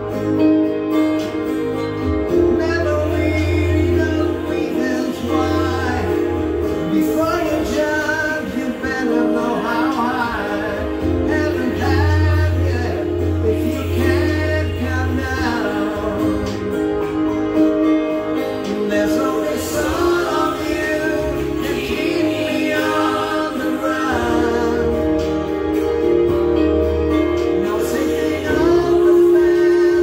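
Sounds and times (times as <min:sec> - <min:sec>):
backing track of sustained chords: 0:00.0 - 0:30.0
deep bass: 0:00.0 - 0:30.0
man singing into microphone: 0:02.2 - 0:17.1, 0:18.4 - 0:25.7, 0:27.3 - 0:30.0.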